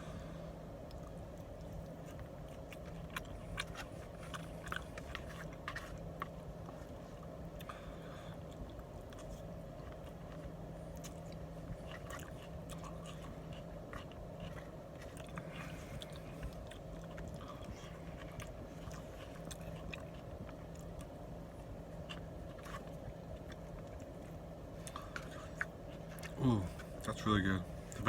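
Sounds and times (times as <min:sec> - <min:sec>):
person chewing food: 0:00.0 - 0:28.0
steady low hum: 0:00.0 - 0:28.0.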